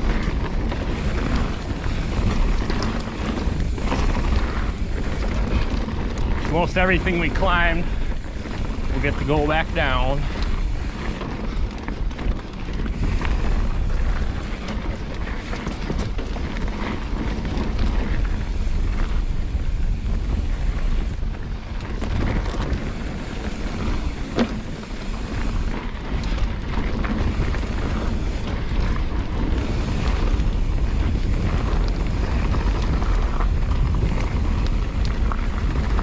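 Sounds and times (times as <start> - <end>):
bike rattles and knocks: 0.0 - 36.0
bike tyres rolling over dirt: 0.0 - 36.0
wind buffeting microphone: 0.0 - 36.0.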